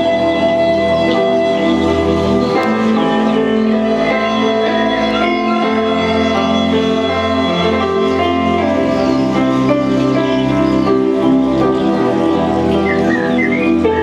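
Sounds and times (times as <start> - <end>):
new-age instrumental music: 0.0 - 14.0.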